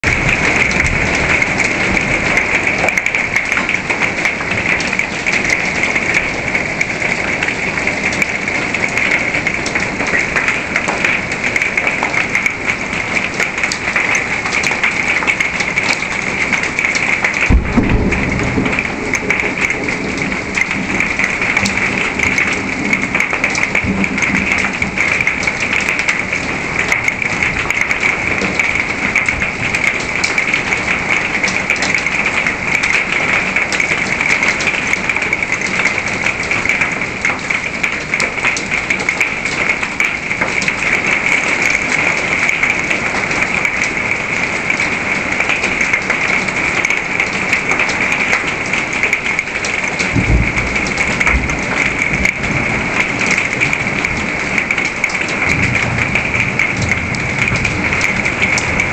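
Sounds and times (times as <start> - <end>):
rain and hail on a wooden deck: 0.0 - 58.9.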